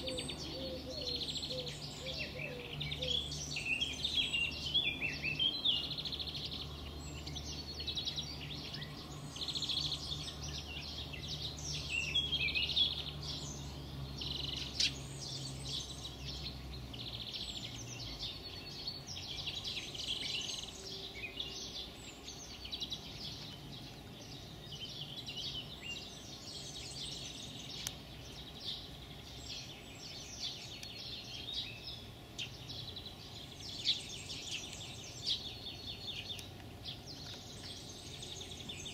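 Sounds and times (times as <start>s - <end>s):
low steady hum: 0.0s - 38.9s
songbirds chirping and trilling: 0.0s - 38.9s.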